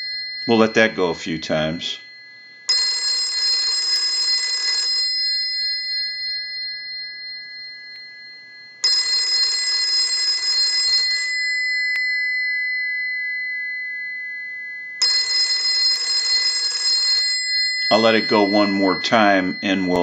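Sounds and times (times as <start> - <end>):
telephone bell ringing: 0.0 - 20.0.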